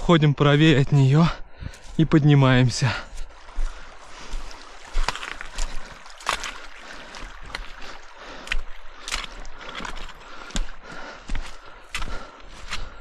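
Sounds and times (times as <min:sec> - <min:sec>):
footsteps on trail: 0:00.6 - 0:13.0.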